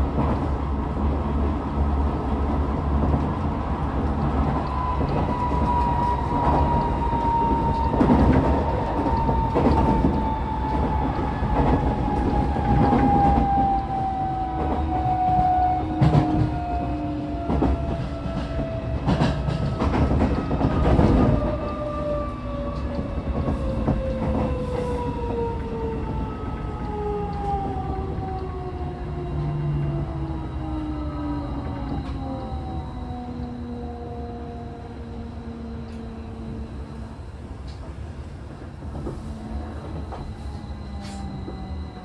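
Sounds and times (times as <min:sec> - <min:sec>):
train running rumble: 0:00.0 - 0:42.0.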